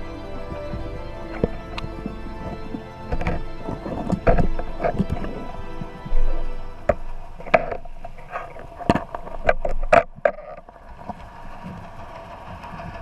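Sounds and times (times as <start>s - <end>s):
underwater wash: 0.0s - 13.0s
underwater knocks and clicks: 0.7s - 11.8s.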